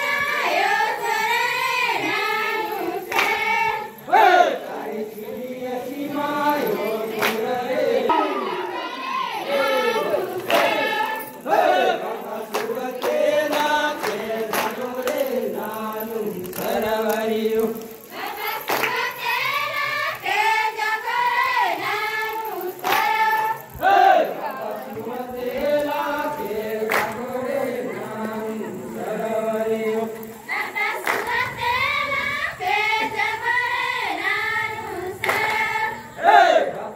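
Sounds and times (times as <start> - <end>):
voices singing and chanting: 0.0 - 36.9.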